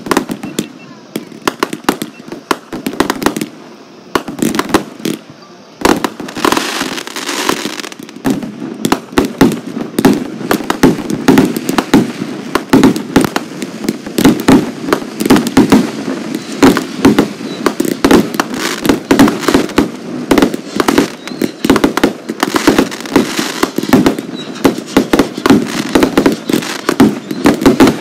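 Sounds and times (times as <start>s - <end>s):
fireworks bursting: 0.0s - 28.0s
fireworks hissing crackle: 0.0s - 28.0s.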